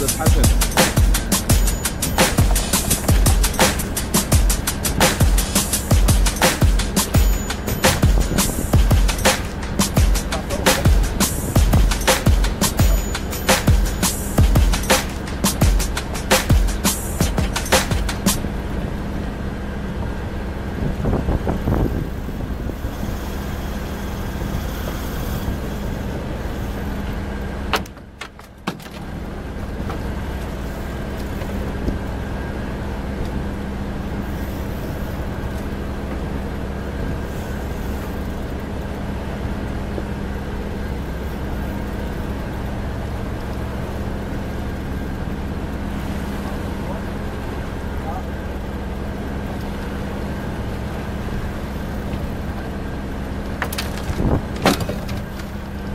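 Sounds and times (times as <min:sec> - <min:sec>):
outboard motor idling: 0:00.0 - 0:55.9
wind: 0:00.0 - 0:55.9.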